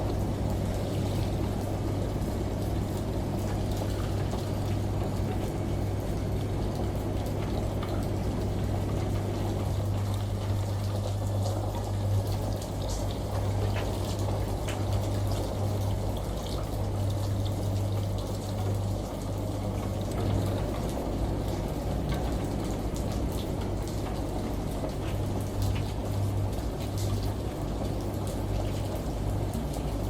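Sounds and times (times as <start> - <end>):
running water: 0.0 - 30.0
small water drips: 0.0 - 30.0
washing machine humming: 0.0 - 30.0.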